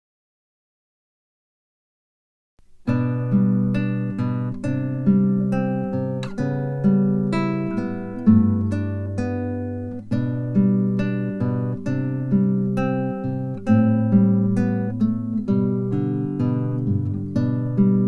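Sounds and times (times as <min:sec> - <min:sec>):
acoustic guitar strumming chords: 0:02.6 - 0:18.0.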